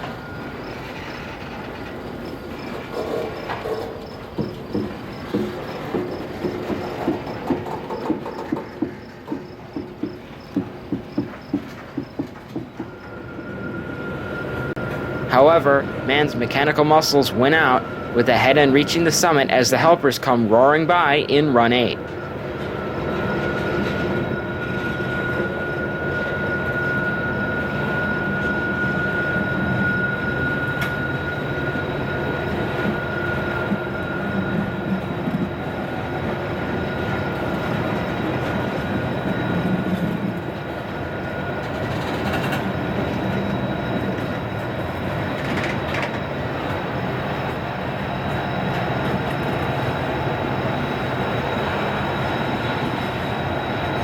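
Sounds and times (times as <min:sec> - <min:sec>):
diesel locomotive drone: 0:00.0 - 0:54.0
train cars rumbling: 0:00.0 - 0:54.0
wheel squeal: 0:00.0 - 0:54.0.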